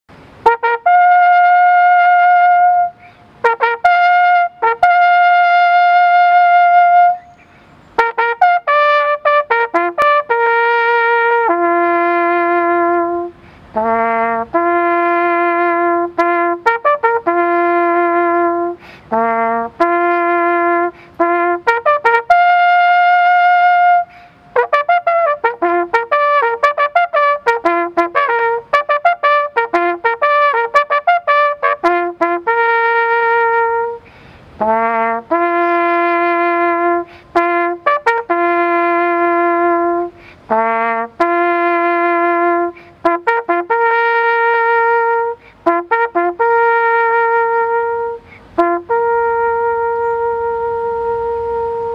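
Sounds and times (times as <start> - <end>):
solo flugelhorn melody: 0.1 - 51.9.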